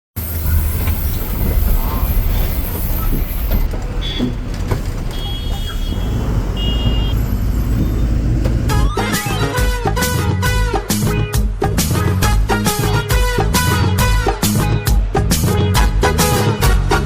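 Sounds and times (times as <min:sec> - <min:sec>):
truck engine and road rumble: 0:00.1 - 0:17.0.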